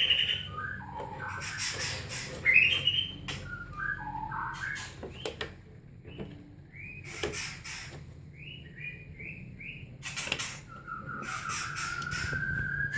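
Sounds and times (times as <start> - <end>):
chicks chirping: 0.0 - 12.9.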